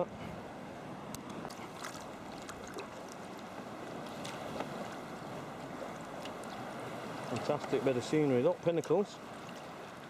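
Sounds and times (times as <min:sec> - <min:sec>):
water sloshing around kayak: 0:00.1 - 0:10.0
paddle splashes and drips: 0:01.1 - 0:10.0.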